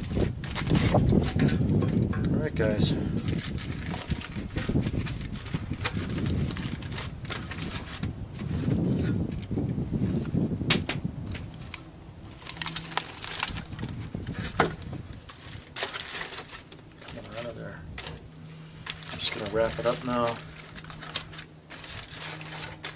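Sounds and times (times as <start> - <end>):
aluminium foil crinkling: 0.0 - 2.1, 2.7 - 10.2, 11.3 - 22.9
low steady rumble: 0.0 - 22.9.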